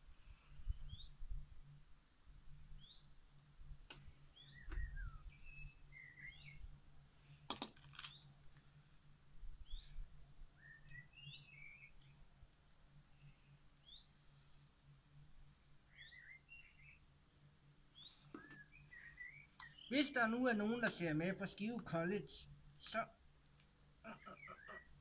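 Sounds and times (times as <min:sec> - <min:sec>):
small birds chirping: 0:00.3 - 0:01.8, 0:02.5 - 0:08.5, 0:09.6 - 0:14.6, 0:15.4 - 0:23.1, 0:24.0 - 0:25.0.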